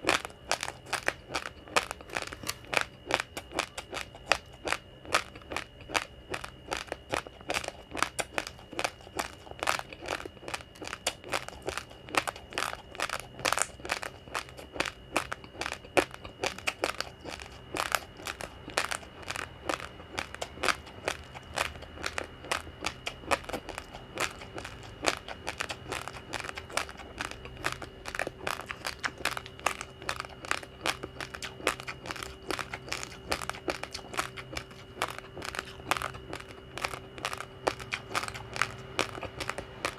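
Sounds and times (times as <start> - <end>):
chewing crunchy rice grains: 0.0 - 39.9
faint steady hum: 0.0 - 39.9.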